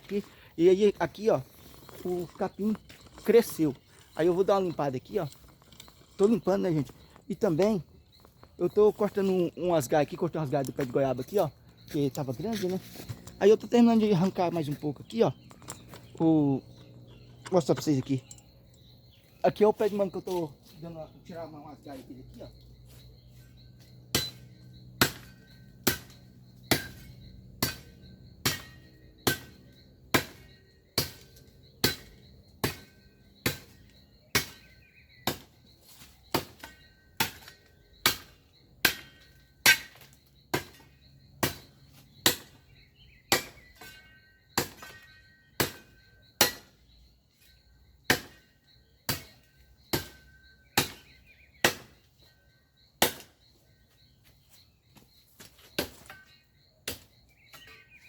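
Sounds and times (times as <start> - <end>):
hand tool chopping vegetation: 0.0 - 16.6, 22.9 - 52.2, 52.9 - 53.6, 54.2 - 58.0.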